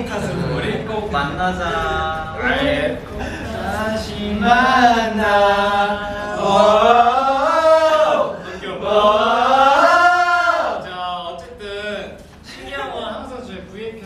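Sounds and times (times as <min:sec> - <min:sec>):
men singing together: 0:00.4 - 0:11.9.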